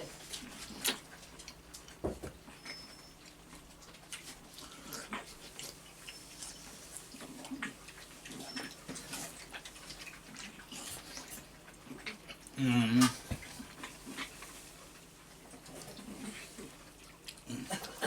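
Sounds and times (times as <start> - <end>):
person chewing juicy melon: 0.0 - 18.0.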